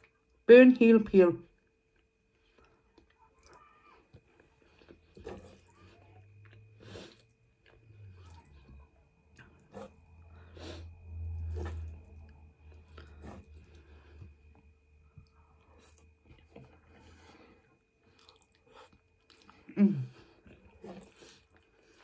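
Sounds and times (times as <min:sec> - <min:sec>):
person chewing spaghetti: 0:01.5 - 0:22.0.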